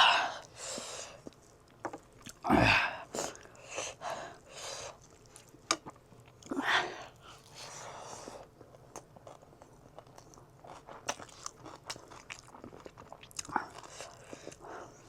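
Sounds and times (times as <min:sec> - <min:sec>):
person chewing with wet mouth sounds: 0:00.4 - 0:03.7, 0:04.3 - 0:15.0.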